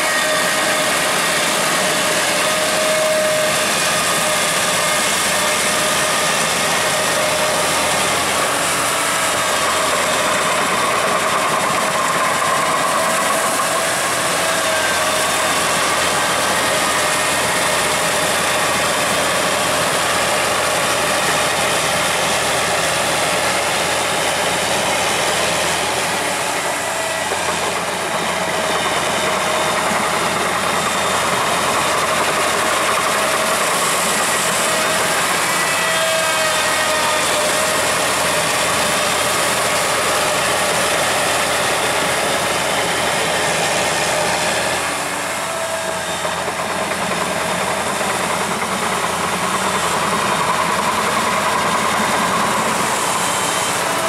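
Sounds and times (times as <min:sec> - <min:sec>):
steady whining tone: 0:00.0 - 0:54.0
tractor engine running: 0:00.0 - 0:54.0.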